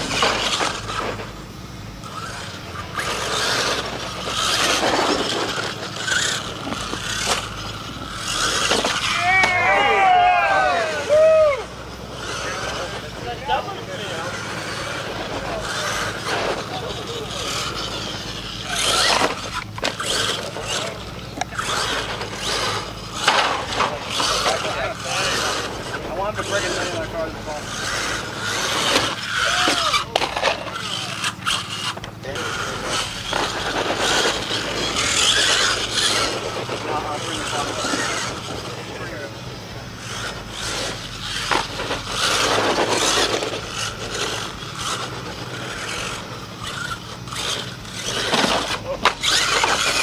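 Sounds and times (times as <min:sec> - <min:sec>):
toy truck motor surging: 0:00.0 - 0:50.0
tyres churning dirt: 0:00.0 - 0:50.0.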